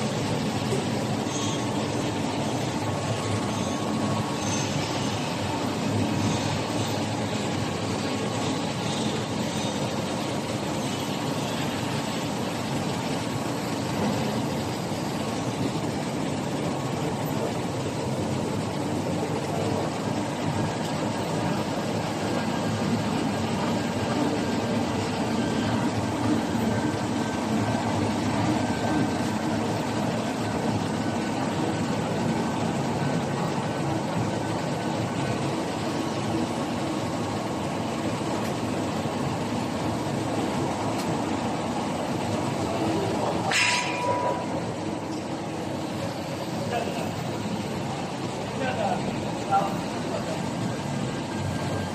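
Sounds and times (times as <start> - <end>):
printing press mechanical drone: 0.0 - 51.9.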